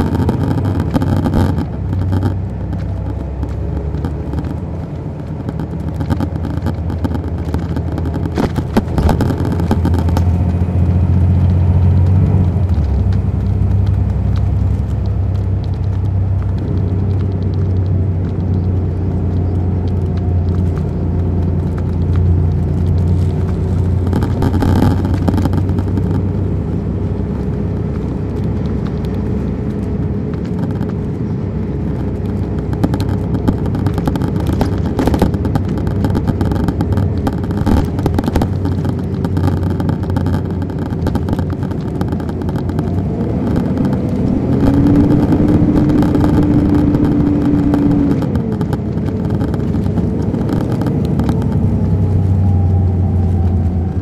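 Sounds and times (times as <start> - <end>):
body rattles and knocks: 0.0 - 54.0
bus engine rumble and whine: 0.0 - 54.0.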